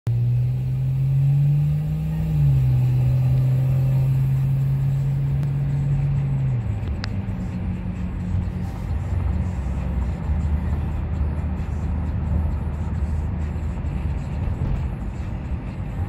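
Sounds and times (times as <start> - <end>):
car engine and road rumble: 0.1 - 16.0.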